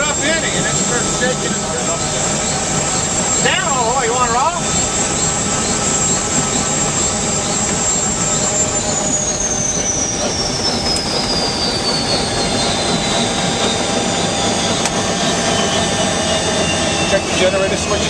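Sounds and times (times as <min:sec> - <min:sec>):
helicopter rotor rush: 0:00.0 - 0:18.0
helicopter turbine whine: 0:00.0 - 0:18.0.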